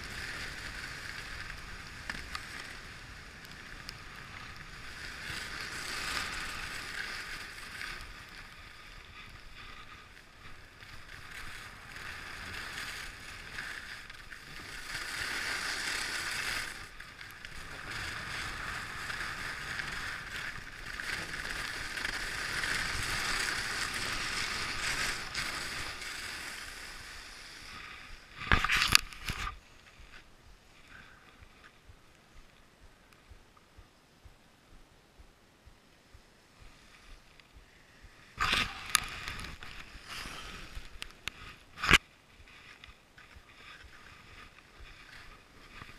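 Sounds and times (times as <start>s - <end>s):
skis scraping on snow: 0.0s - 32.7s, 36.6s - 45.9s.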